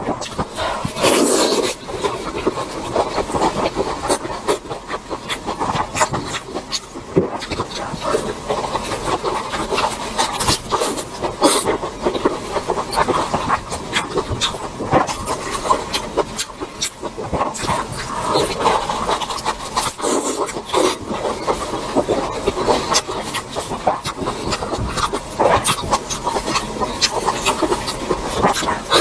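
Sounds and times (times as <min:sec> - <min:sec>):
person chewing and smacking: 0:00.1 - 0:29.0.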